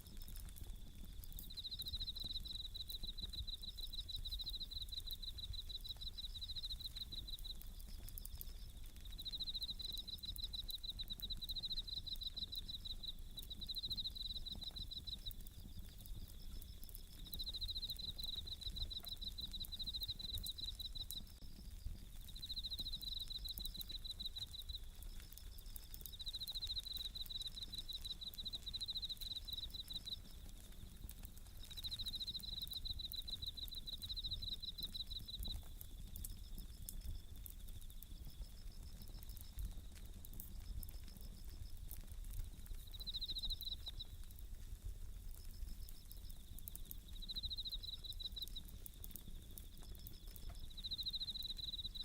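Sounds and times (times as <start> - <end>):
campfire crackling: 0.0 - 52.0
crickets trilling: 0.0 - 52.0.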